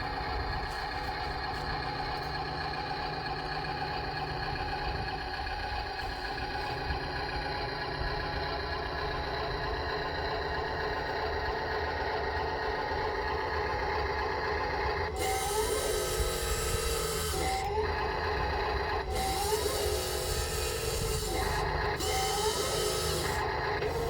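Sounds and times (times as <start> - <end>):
steady mechanical hum: 0.0 - 24.0
toy bulldozer motors whirring: 0.0 - 24.0.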